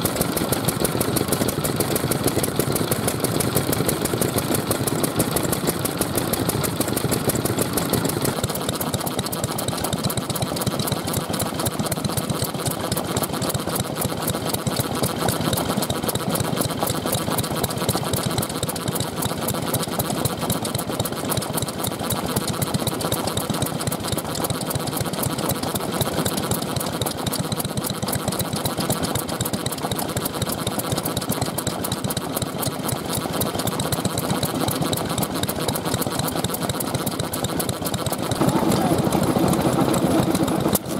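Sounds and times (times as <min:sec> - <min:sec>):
stationary engine running: 0:00.0 - 0:40.9.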